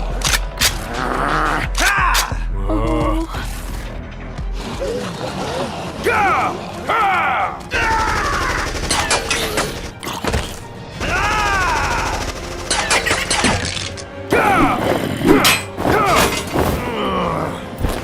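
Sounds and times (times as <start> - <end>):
action film music: 0.0 - 18.0.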